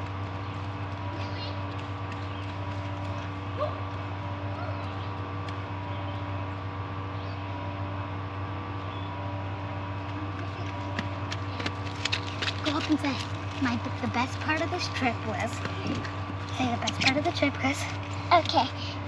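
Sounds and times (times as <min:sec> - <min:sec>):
vehicle drone from inside cabin: 0:00.0 - 0:19.0.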